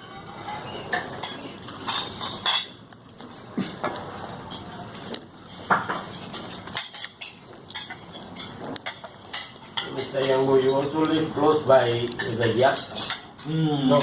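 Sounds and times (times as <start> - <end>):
cutlery and dishes clinking: 0.0 - 14.0.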